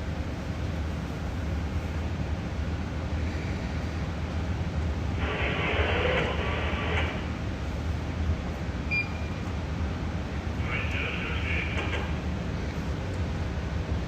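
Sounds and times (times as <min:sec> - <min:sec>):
machinery humming: 0:00.1 - 0:14.0.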